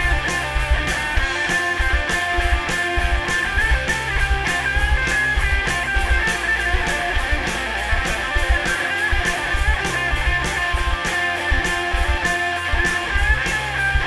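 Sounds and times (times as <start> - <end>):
rock band playing instrumental: 0.0 - 14.0.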